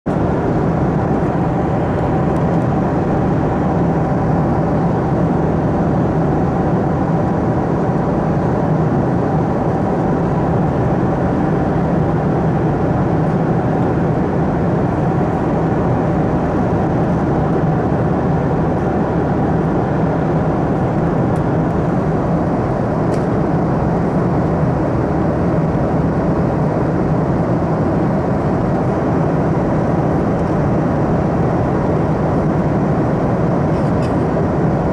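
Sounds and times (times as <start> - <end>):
airplane cabin roar: 0.1 - 34.9.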